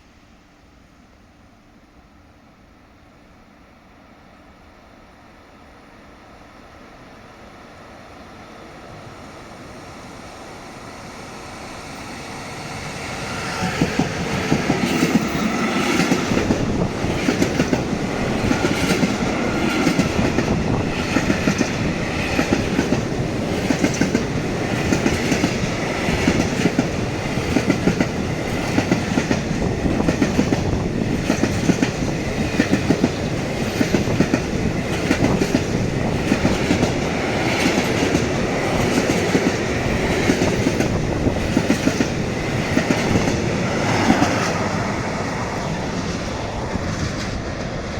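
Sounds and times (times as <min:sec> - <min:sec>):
freight train passing: 0:00.0 - 0:47.9.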